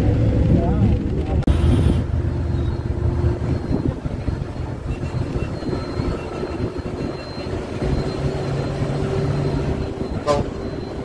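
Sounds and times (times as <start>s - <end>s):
bus engine and road noise: 0.0s - 11.0s.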